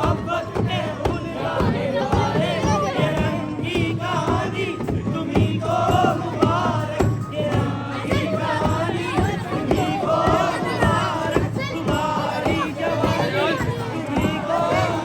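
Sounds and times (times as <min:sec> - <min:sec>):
crowd of men chanting: 0:00.0 - 0:15.0
music with steady beat: 0:00.0 - 0:15.0.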